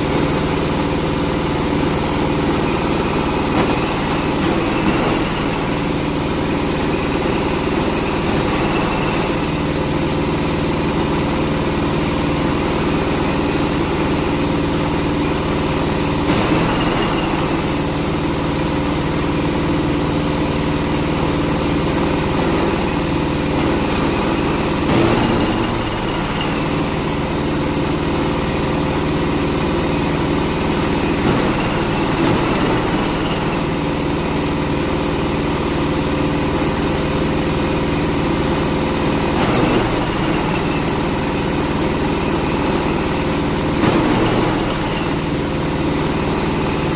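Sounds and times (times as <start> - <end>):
grinding machine engine running: 0.0 - 46.9.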